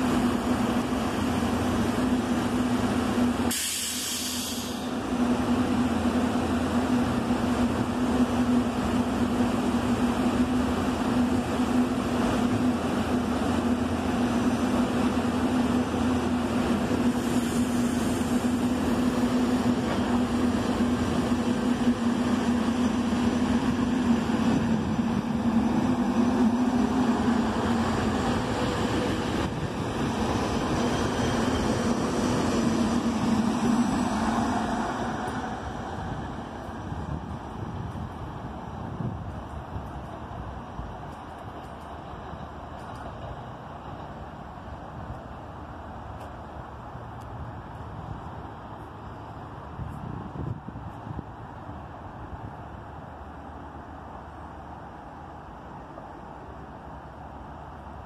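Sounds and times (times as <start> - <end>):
electric train hum: 0.0 - 58.0
train wheels rolling on rails: 0.0 - 58.0.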